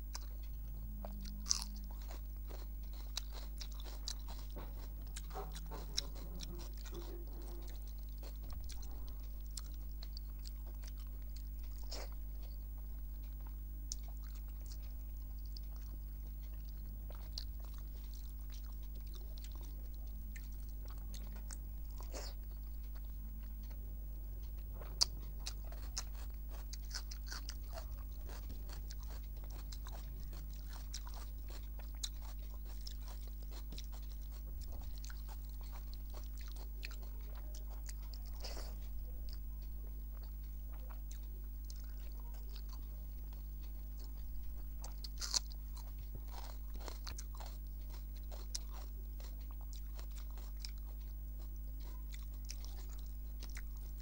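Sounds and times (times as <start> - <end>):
person chewing with mouth clicks: 0.0 - 23.8, 24.4 - 54.0
steady low hum: 0.0 - 54.0.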